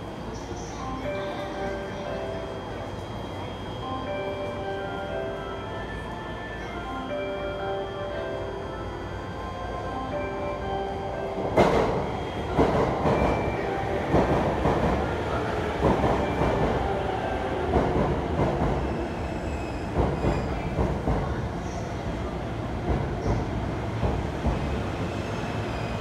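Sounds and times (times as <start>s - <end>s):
train rumbling to a stop: 0.0s - 26.0s.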